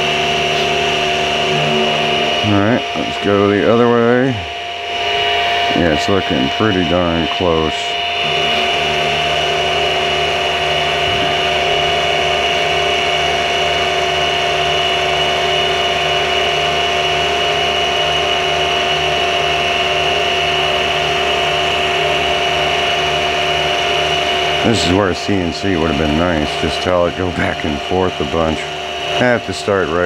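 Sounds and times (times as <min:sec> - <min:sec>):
milling machine motor hum: 0:00.0 - 0:30.0.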